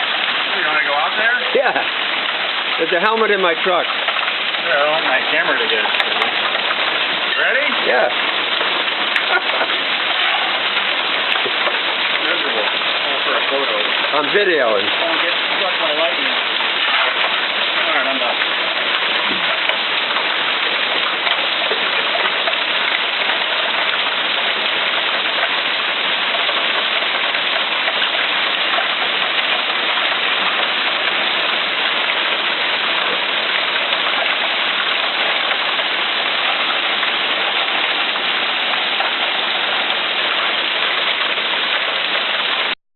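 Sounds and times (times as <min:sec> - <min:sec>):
hail and heavy rain: 0:00.0 - 0:42.8.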